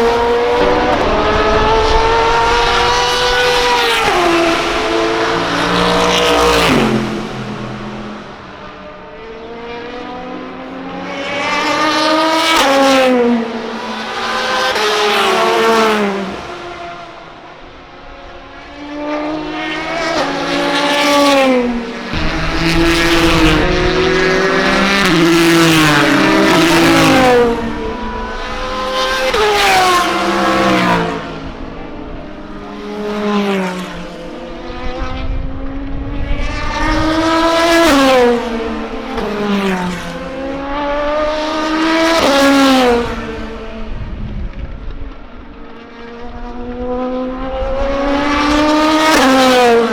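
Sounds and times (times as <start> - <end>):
race cars passing at speed: 0.0 - 49.9.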